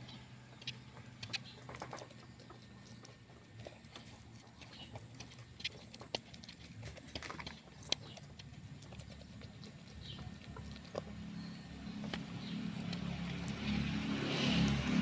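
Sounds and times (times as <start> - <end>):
motor engine hum: 0.0 - 15.0.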